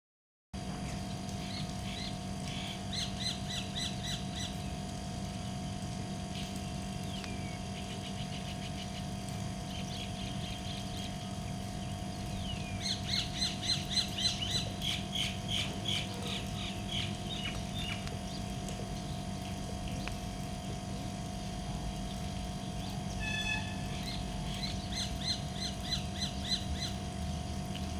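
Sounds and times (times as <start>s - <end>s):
steady low hum: 0.6s - 27.9s.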